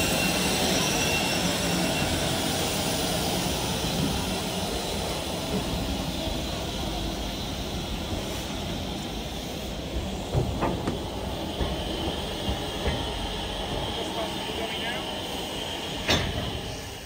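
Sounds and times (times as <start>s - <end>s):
steam hissing: 0.0s - 17.0s
steam locomotive rumble: 0.0s - 17.0s.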